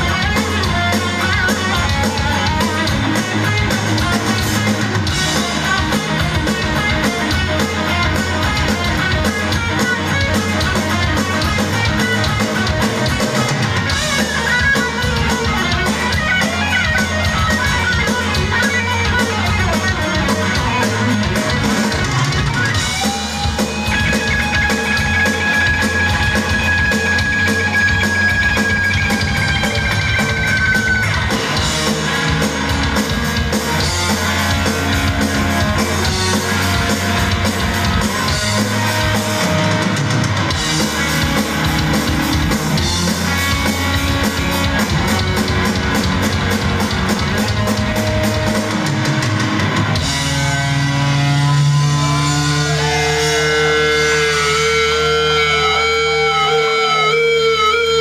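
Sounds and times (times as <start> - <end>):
distorted electric guitar: 0.0 - 58.0
fast drumming: 0.0 - 58.0
live rock band playing: 0.0 - 58.0.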